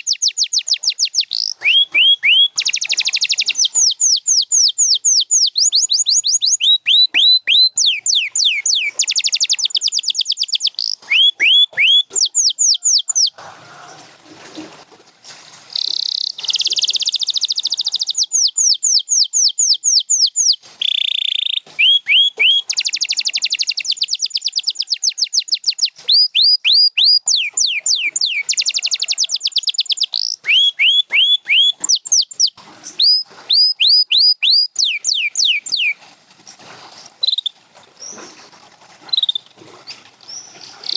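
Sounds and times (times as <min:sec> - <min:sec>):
canary singing: 0:00.0 - 0:14.0, 0:15.7 - 0:36.0, 0:39.0 - 0:40.9.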